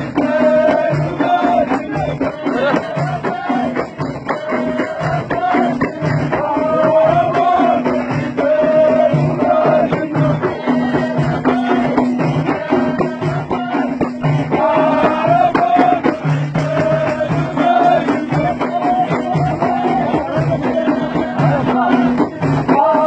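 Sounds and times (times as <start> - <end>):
frame drum beats: 0.0 - 23.0
group chanting: 0.0 - 23.0.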